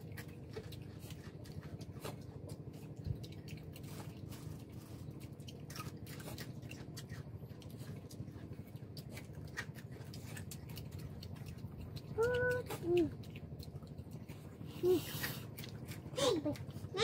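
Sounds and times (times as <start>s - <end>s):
chewing mouth sounds: 0.0s - 17.0s.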